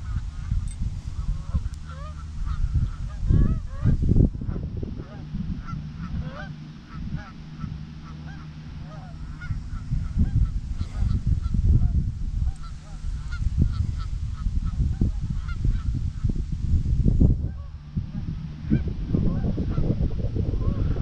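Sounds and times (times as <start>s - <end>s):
geese honking: 0.0s - 16.4s, 17.4s - 21.0s
heavy low rumble: 0.0s - 21.0s.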